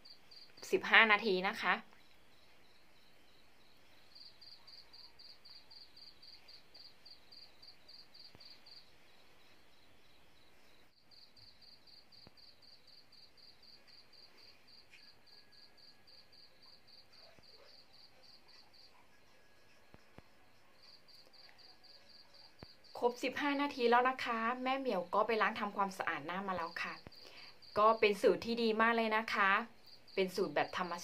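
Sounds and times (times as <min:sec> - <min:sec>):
cricket chirping: 0:00.0 - 0:31.0.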